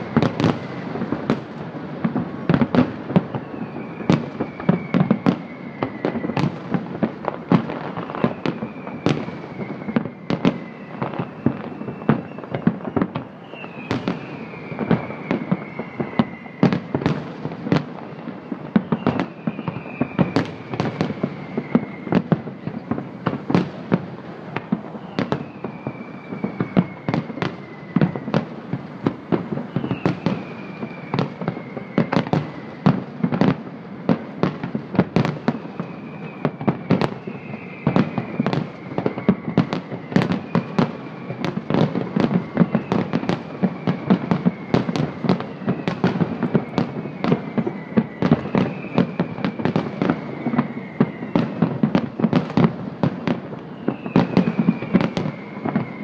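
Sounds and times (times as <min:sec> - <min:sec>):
falling firework whistle: 0:00.0 - 0:56.0.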